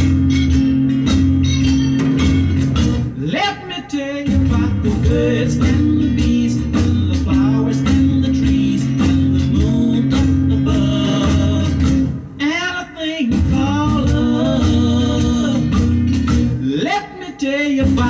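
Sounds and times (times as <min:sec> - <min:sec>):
pop band playing: 0:00.0 - 0:18.0
male vocal: 0:03.2 - 0:18.0.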